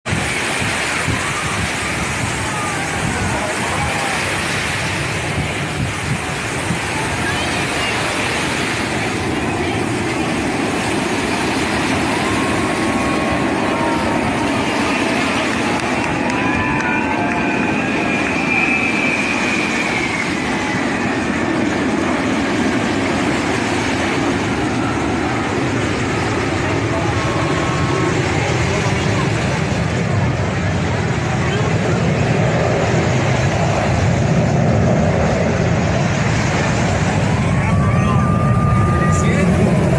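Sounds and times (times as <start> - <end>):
high engine whine: 0.0 - 39.9
jet aircraft roar: 0.0 - 39.9.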